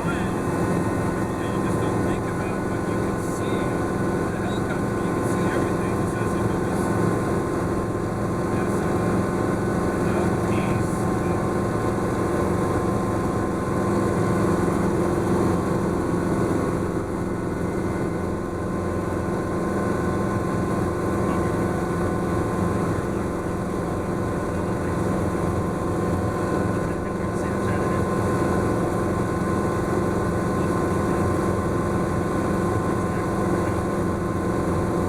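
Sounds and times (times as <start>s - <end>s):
helicopter engine and rotors: 0.0s - 35.0s.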